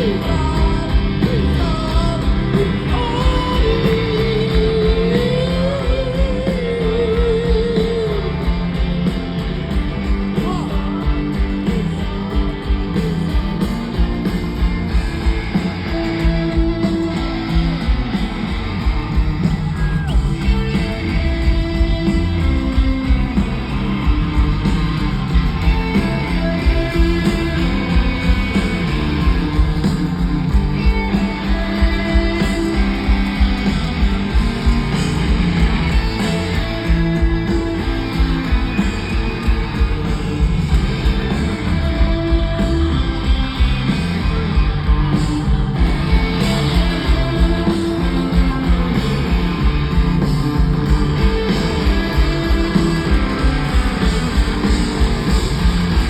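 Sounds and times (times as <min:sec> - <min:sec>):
rock band playing: 0:00.0 - 0:56.0.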